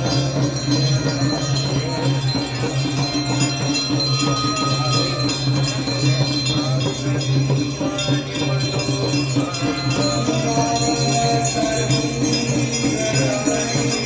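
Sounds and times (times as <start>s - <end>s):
brass hand bells ringing: 0.0s - 14.0s.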